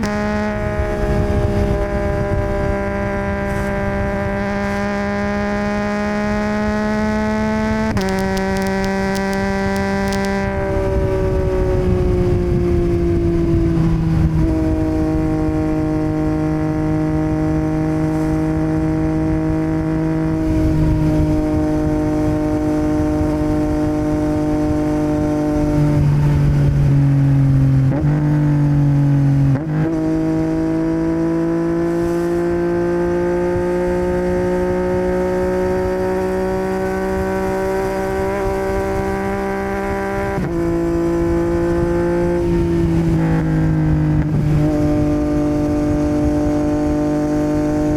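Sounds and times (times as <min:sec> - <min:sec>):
low wind rumble: 0:00.0 - 0:47.9
motorcycle engine running: 0:00.0 - 0:47.9.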